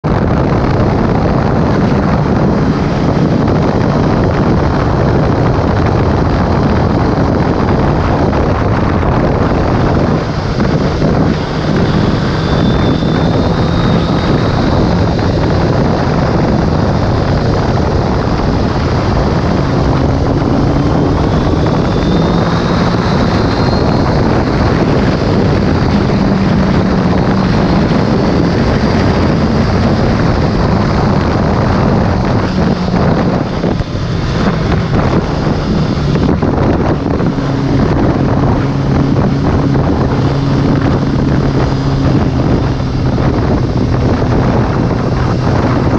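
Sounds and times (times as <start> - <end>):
motorcycle engine: 0.0 - 45.9
wind buffeting microphone: 0.0 - 45.9.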